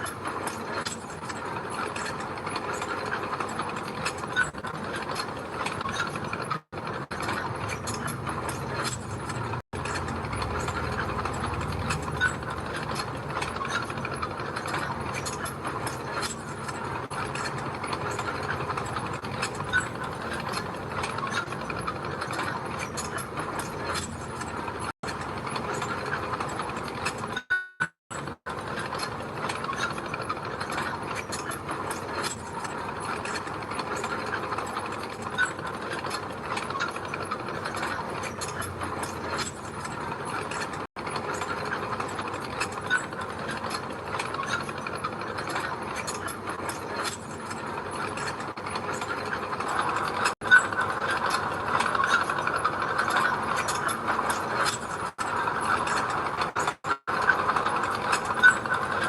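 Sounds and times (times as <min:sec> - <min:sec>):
bulldozer tracks clanking and squeaking: 0:00.0 - 0:59.0.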